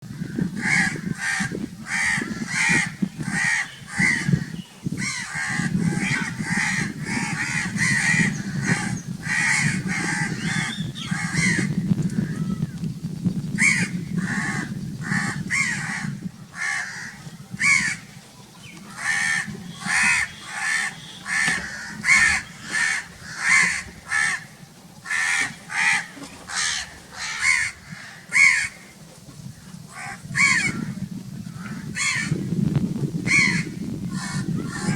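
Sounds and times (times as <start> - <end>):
crows cawing: 0.2 - 12.8, 13.6 - 18.1, 18.9 - 28.9, 29.9 - 31.0, 31.6 - 32.4, 33.3 - 34.9.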